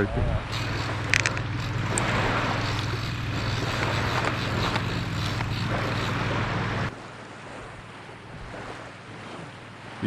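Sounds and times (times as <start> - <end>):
wind buffeting microphone: 0.0 - 9.3
lake waves: 0.0 - 10.0.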